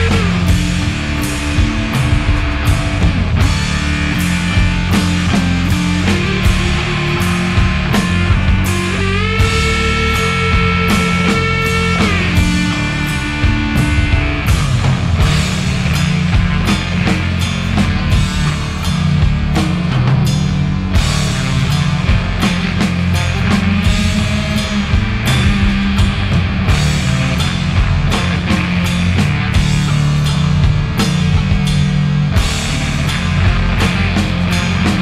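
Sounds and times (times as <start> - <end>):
drums steady beat: 0.0 - 35.0
rock music: 0.0 - 35.0.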